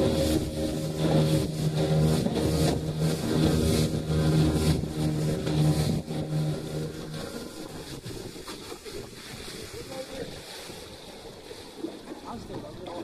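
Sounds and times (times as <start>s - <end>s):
outboard motor running: 0.0s - 13.0s
water splashing: 0.0s - 13.0s
wind: 0.0s - 13.0s.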